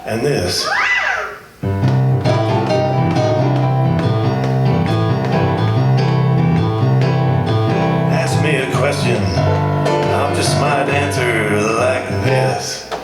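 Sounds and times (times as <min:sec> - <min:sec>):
steady bass line: 0:01.6 - 0:12.6
instrumental music: 0:01.6 - 0:12.9.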